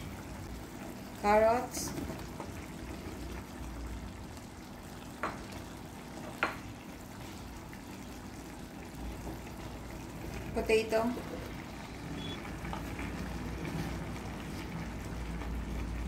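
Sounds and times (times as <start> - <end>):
broth bubbling in a pan: 0.0 - 16.0.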